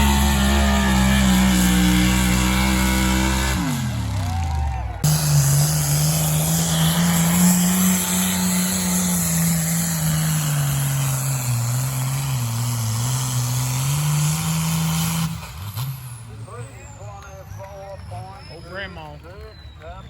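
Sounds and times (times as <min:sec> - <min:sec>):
vehicle engine revving under load: 0:00.0 - 0:17.2.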